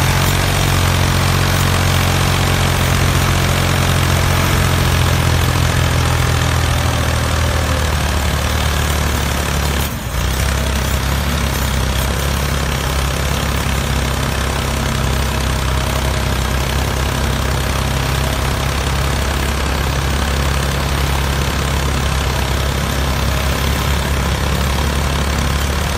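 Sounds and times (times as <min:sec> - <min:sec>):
tractor engine idling: 0:00.0 - 0:25.9.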